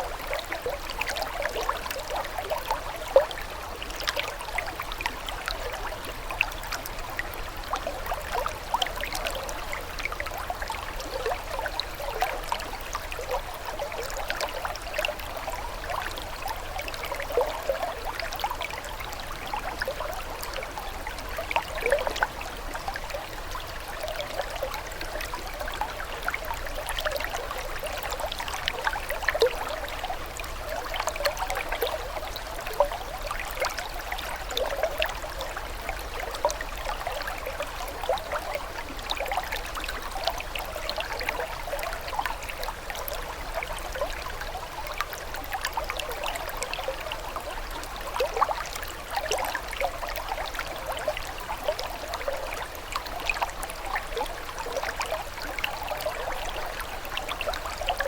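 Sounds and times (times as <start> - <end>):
water trickling and babbling: 0.0 - 58.0.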